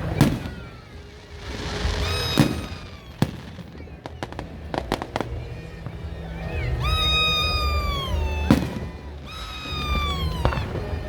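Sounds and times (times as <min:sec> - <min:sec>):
low rumble: 0:00.0 - 0:09.3
firework bangs: 0:00.0 - 0:11.0
firework whistles: 0:00.0 - 0:11.0.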